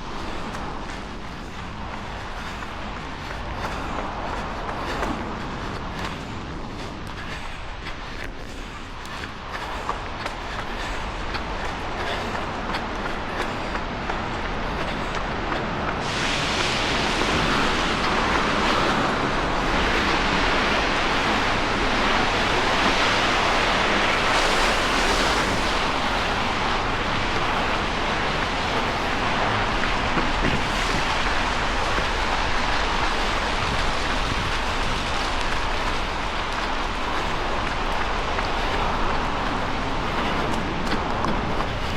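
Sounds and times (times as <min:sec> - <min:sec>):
rain on wet street: 0:00.0 - 0:41.9.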